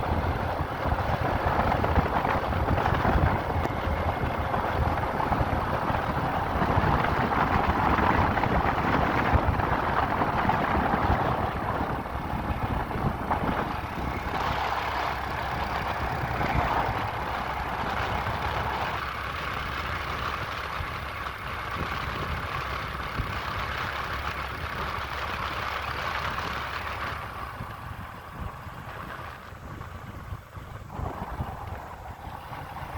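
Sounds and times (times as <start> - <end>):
motorcycle engine running: 0.0 - 32.9
wind noise: 0.0 - 32.9.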